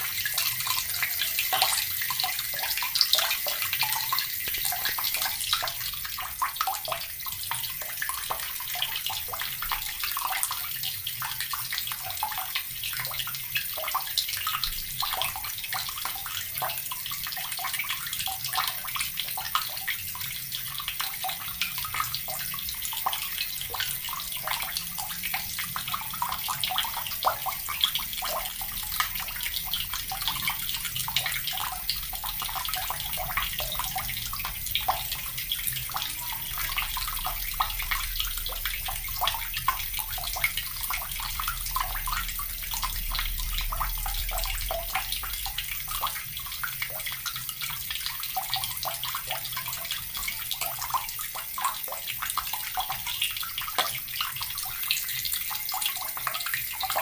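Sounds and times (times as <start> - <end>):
tap water pouring into bucket: 0.0 - 57.0.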